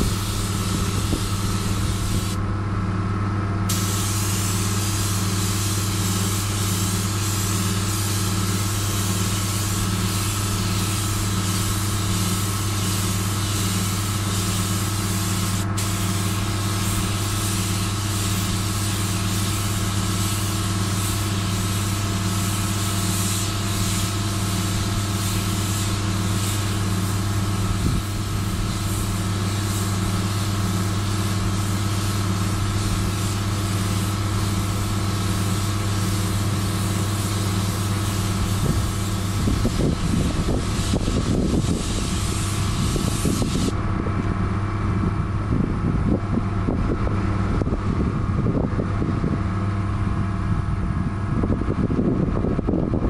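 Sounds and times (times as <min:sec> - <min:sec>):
spray gun hissing: 0:00.0 - 0:02.4, 0:03.7 - 0:43.8
air compressor humming: 0:00.0 - 0:52.1.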